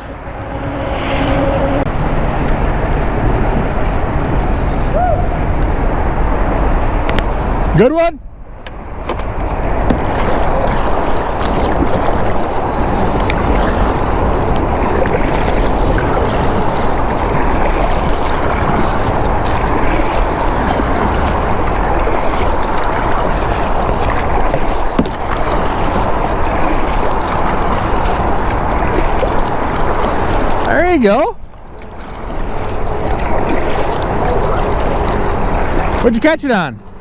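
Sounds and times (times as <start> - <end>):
creek water flowing: 0.0 - 7.9, 8.5 - 37.0
wind: 0.0 - 37.0.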